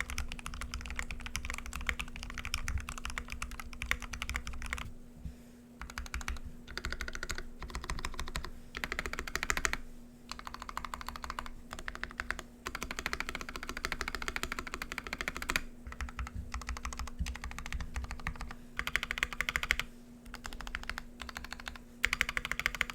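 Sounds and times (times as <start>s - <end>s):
mechanical keyboard typing: 0.0s - 4.9s, 5.8s - 22.9s.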